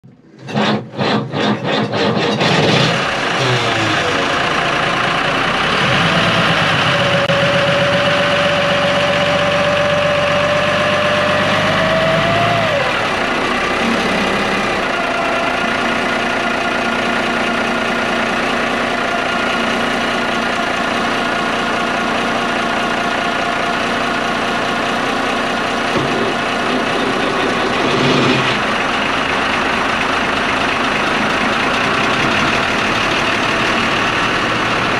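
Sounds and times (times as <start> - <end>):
diesel engine cranking and running: 0.0 - 34.9.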